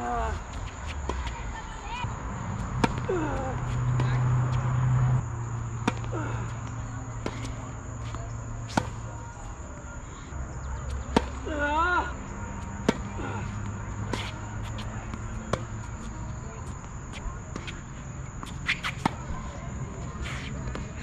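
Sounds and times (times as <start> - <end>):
tennis balls struck and bouncing: 2.5 - 9.8, 10.5 - 11.6, 12.2 - 21.0.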